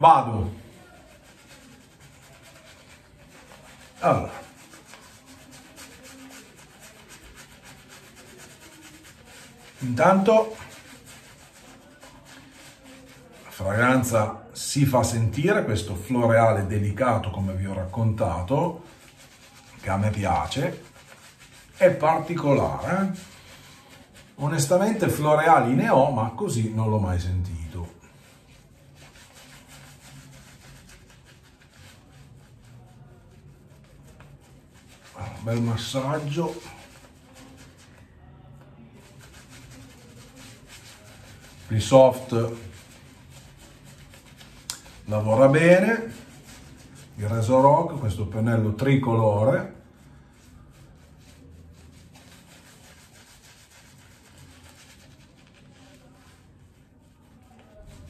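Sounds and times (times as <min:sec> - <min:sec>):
shaving brush rubbing on skin: 0:00.0 - 0:58.0.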